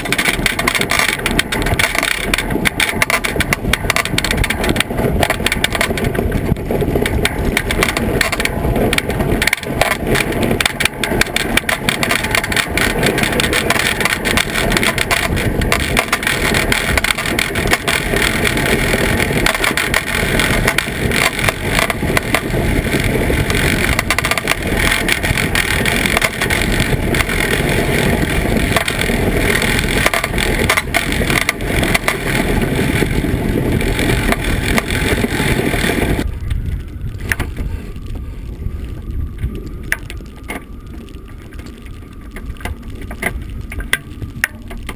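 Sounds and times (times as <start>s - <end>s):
runners rumbling on ice: 0.0s - 44.9s
wind on microphone: 0.0s - 44.9s.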